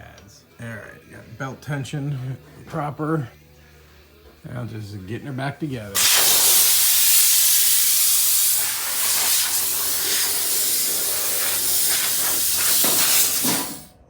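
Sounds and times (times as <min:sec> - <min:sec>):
loud steady hissing: 0:00.6 - 0:14.0.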